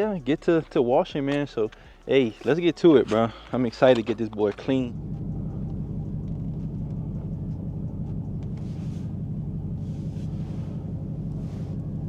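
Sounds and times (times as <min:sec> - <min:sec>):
car engine idling rumble: 0:00.0 - 0:12.0.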